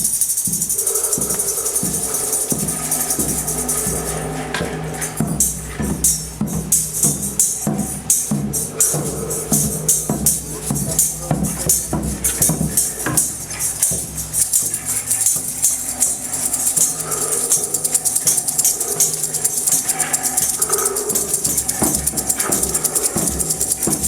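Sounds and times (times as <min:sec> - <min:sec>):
shaken jingling percussion: 0:00.0 - 0:24.0
low sustained tones: 0:00.5 - 0:24.0.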